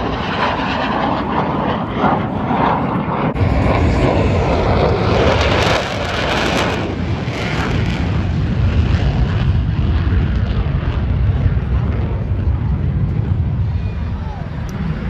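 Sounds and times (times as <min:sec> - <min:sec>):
jet aircraft passing overhead: 0:00.0 - 0:15.0.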